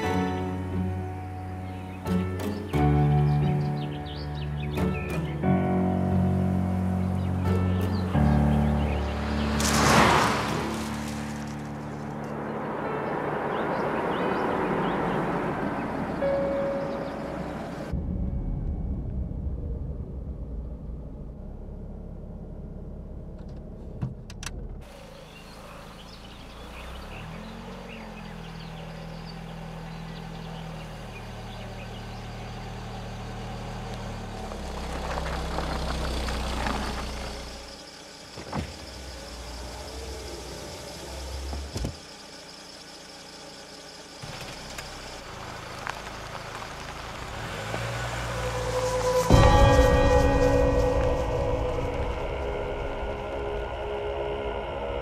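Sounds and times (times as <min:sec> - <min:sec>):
car engine: 0:00.0 - 0:55.0
road noise: 0:00.0 - 0:55.0.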